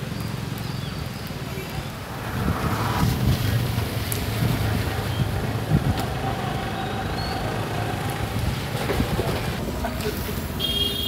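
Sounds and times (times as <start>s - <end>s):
auto-rickshaws driving past: 0.0s - 10.7s
road noise on wet street: 0.0s - 11.0s.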